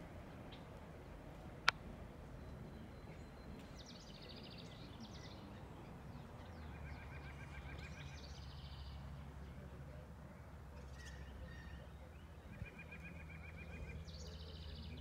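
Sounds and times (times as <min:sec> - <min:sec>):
songbirds singing: 0:01.5 - 0:15.0.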